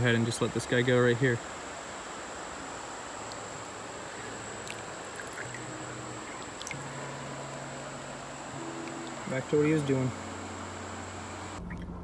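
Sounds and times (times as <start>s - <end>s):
creek water running: 0.0s - 11.6s
insect buzzing: 0.0s - 11.6s.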